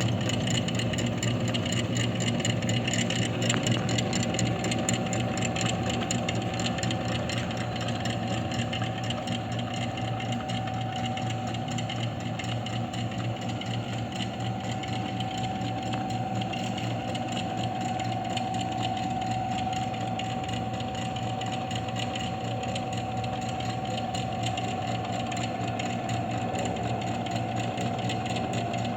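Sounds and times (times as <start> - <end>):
drill press motor humming: 0.0 - 28.9.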